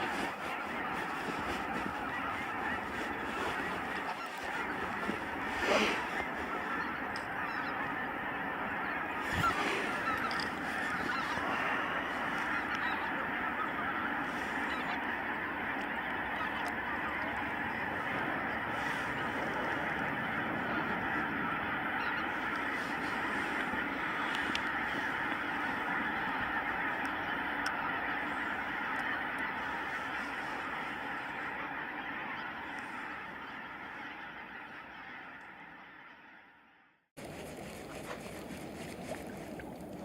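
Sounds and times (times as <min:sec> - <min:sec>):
geese honking: 0:00.0 - 0:40.0.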